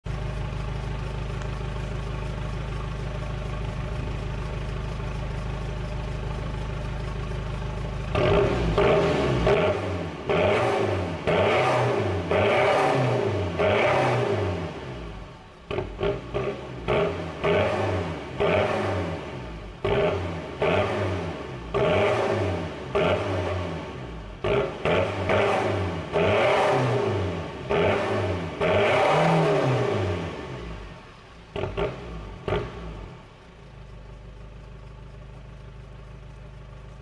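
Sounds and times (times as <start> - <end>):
diesel engine idling and revving: 0.0 - 37.0.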